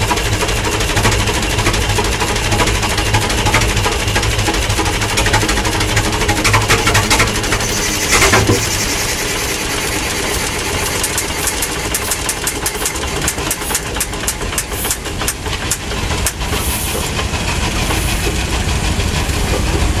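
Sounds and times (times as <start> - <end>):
sharp irregular clicks: 0.0 - 17.2
tractor engine running: 0.0 - 20.0.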